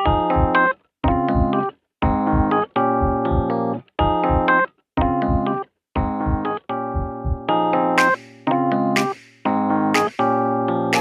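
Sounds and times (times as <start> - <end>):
beat: 0.0 - 11.0.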